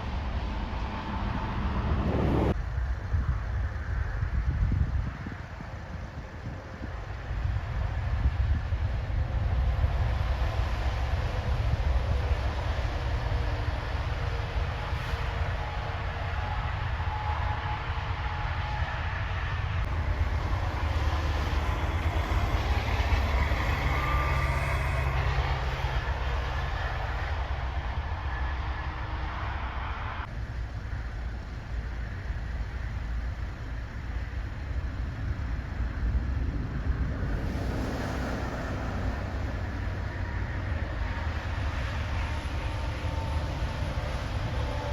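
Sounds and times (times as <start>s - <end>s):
heavy truck engines rumbling: 0.0s - 2.8s, 5.7s - 44.9s
road noise: 0.0s - 44.9s.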